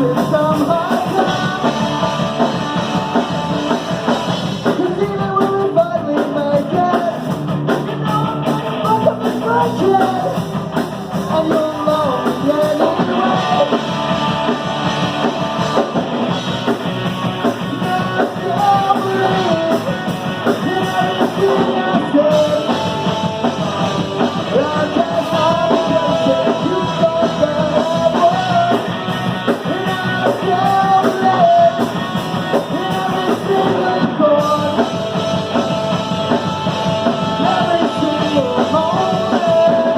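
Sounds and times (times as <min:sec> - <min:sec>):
person singing: 0:00.0 - 0:10.5, 0:11.1 - 0:15.9, 0:17.4 - 0:36.4, 0:37.0 - 0:39.9
drums: 0:00.0 - 0:39.9
electric guitar: 0:00.0 - 0:39.9
rock band playing loudly: 0:00.0 - 0:39.9.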